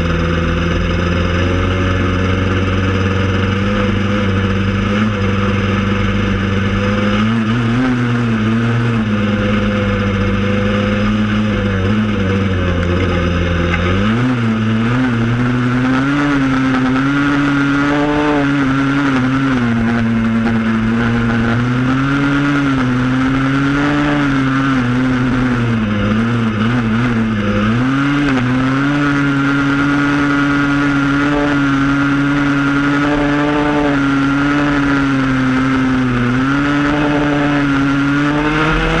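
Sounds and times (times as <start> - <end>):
two-stroke engine revving: 0.0 - 39.0.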